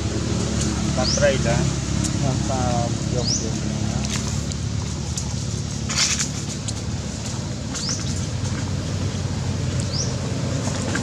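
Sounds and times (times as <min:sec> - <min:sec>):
rustle: 0:00.0 - 0:11.0.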